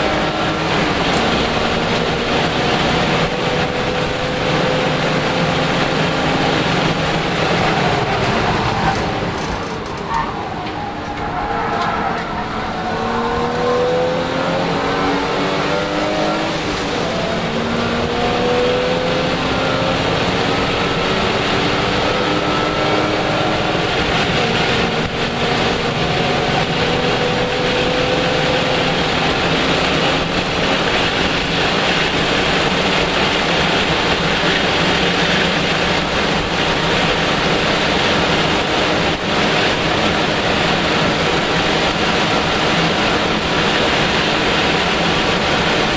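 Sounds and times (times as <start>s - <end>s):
race car engine accelerating: 0.0s - 45.9s
wind and road noise: 0.0s - 45.9s.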